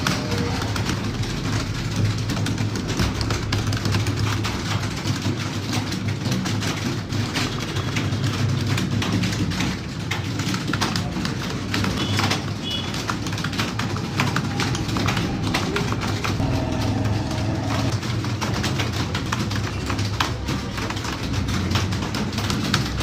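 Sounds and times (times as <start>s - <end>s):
many keyboards clattering: 0.0s - 23.0s.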